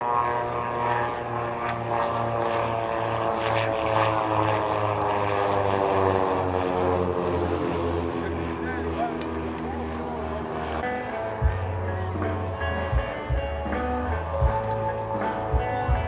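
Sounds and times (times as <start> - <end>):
propeller plane droning: 0.0 - 16.0.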